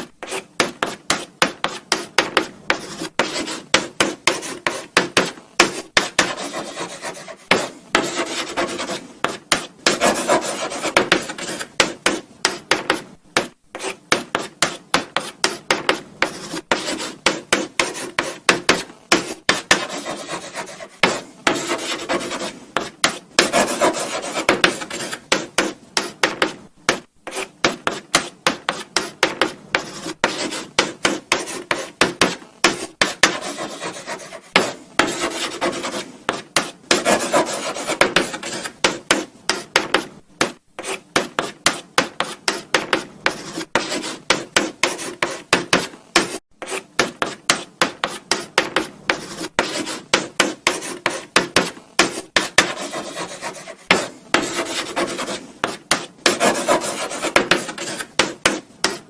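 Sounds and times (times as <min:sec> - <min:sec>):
chalk writing on blackboard: 0:00.0 - 0:59.0.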